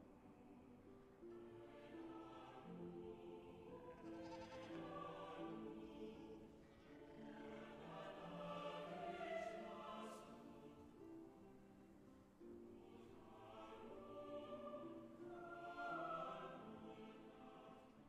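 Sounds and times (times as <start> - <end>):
orchestral film music: 0.0 - 18.0
wordless choir singing: 0.0 - 18.0.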